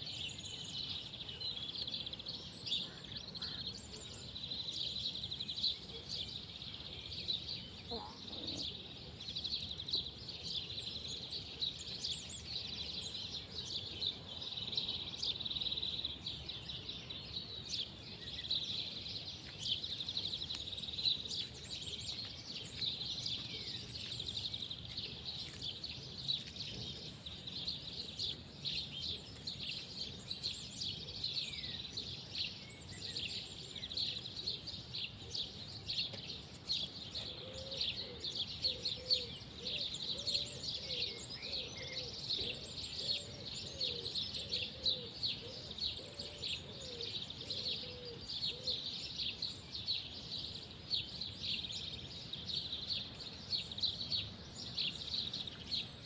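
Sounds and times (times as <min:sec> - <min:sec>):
outdoor background noise: 0:00.0 - 0:56.0
small birds chirping: 0:00.0 - 0:56.0.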